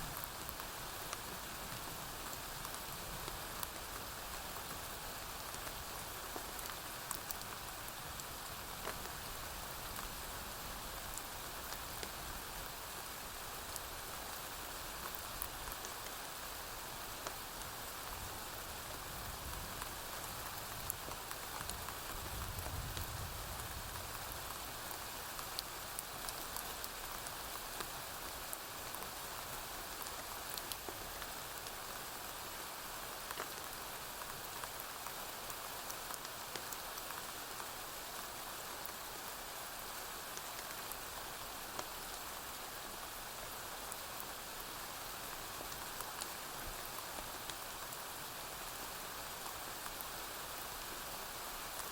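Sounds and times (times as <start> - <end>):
rain falling on a roof: 0.0 - 51.9.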